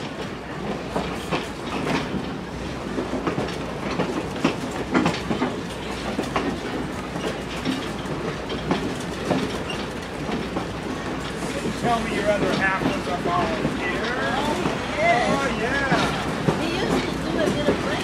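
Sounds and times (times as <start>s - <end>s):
train rumbling: 0.0s - 18.0s
wheels clacking over rail joints: 0.0s - 18.0s.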